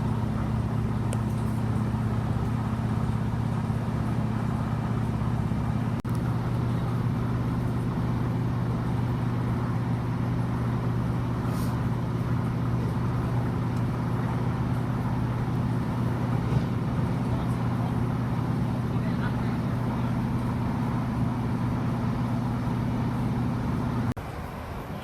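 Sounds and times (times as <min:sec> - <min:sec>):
train diesel engine drone: 0:00.0 - 0:25.0
train running noise: 0:00.0 - 0:25.0.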